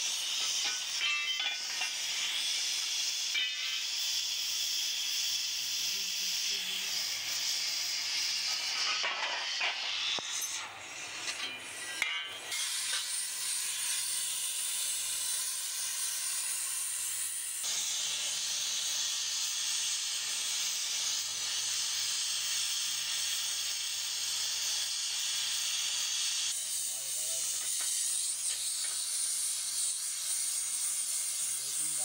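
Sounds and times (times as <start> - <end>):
gas torch flame hissing: 0.0 - 32.0.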